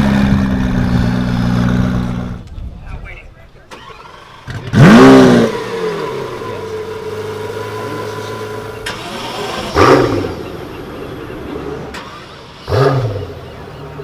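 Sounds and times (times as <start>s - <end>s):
sports car engine revving and idling: 0.0s - 2.5s, 4.1s - 14.0s.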